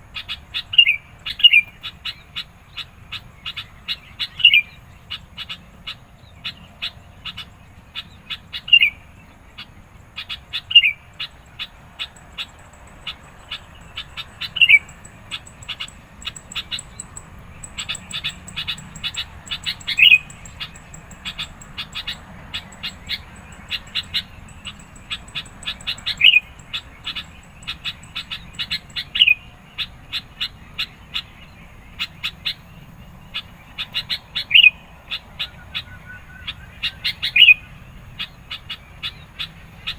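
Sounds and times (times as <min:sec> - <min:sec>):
bulbul chirping: 0:00.2 - 0:39.9.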